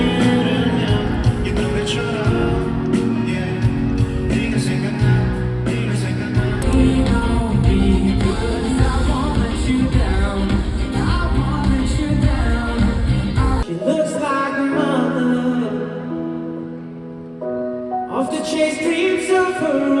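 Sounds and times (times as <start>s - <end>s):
live concert music with singing: 0.0s - 20.0s
music with long held notes: 0.0s - 20.0s.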